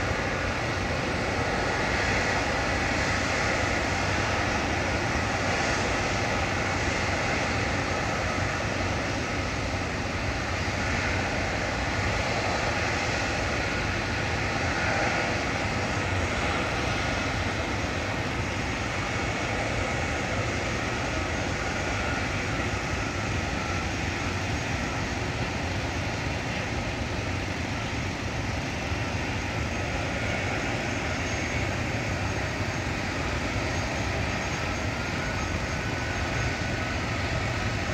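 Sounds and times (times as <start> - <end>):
jet engine rushing hum: 0.0 - 37.9.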